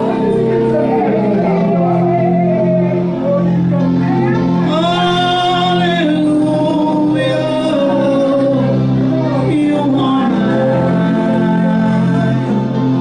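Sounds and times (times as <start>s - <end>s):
sustained instrumental backing: 0.0s - 13.0s
voices singing gospel: 0.0s - 13.0s.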